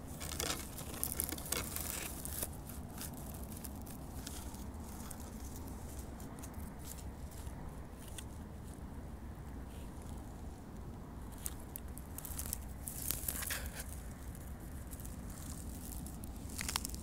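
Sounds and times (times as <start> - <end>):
pine needles and twigs crackling: 0.0 - 8.8, 9.7 - 17.0
steady low rumble: 0.0 - 17.0.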